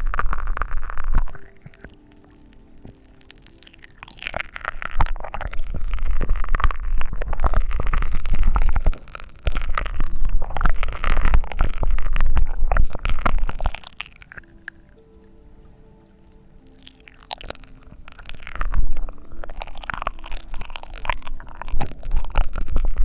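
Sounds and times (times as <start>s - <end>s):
crackling mouth sounds: 0.0s - 23.0s.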